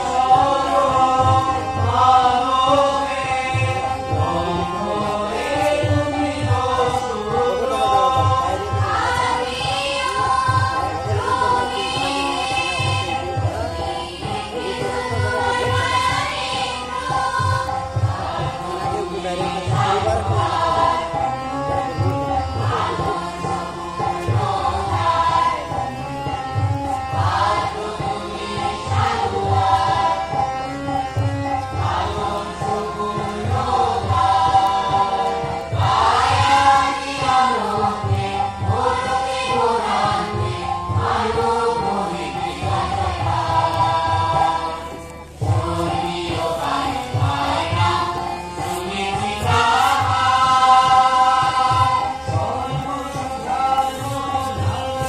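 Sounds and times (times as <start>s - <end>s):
group singing a hymn: 0.0s - 55.0s.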